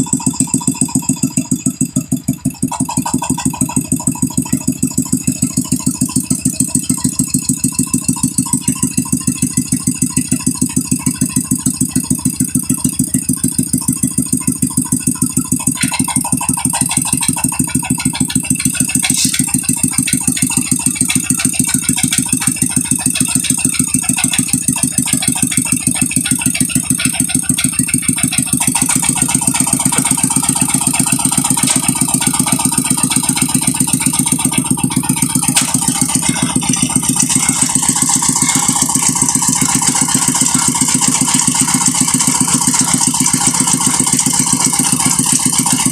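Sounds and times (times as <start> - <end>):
brick-making machine rattling: 0.0 - 45.9.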